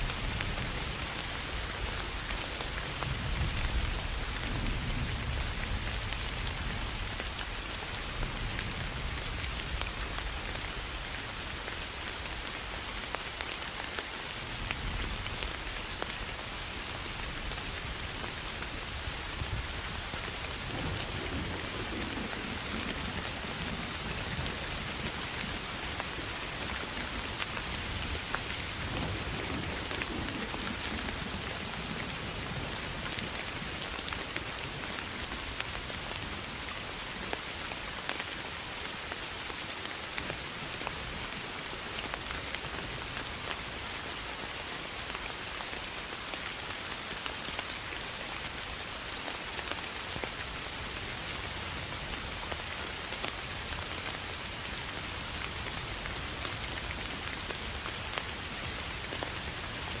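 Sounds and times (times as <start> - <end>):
soft rain on grass and leaves: 0.0 - 60.0.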